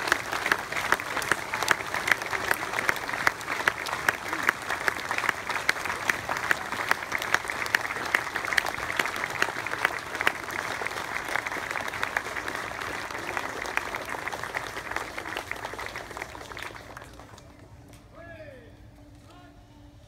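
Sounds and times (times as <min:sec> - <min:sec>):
crowd applauding: 0:00.0 - 0:17.7.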